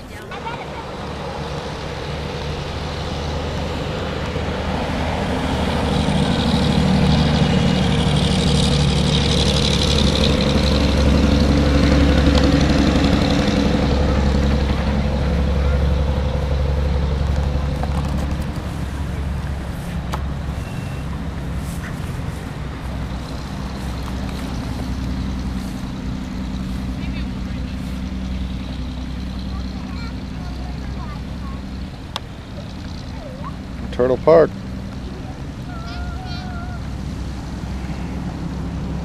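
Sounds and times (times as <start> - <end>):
vehicle engine passing by: 0.0 - 39.0.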